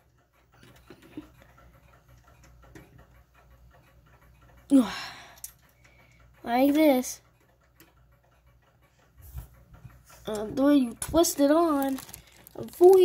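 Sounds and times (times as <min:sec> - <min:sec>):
fingers clicking and scraping on clock: 0:00.0 - 0:13.0.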